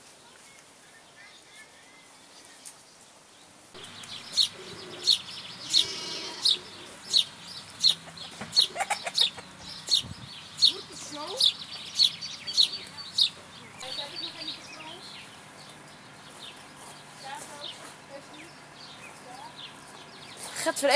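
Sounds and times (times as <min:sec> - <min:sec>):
chickens clucking: 0:03.8 - 0:20.9.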